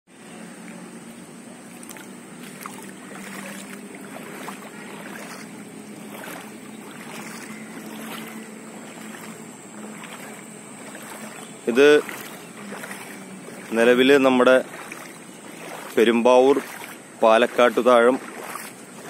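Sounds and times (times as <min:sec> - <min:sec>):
faint steady hum: 0:00.1 - 0:19.0.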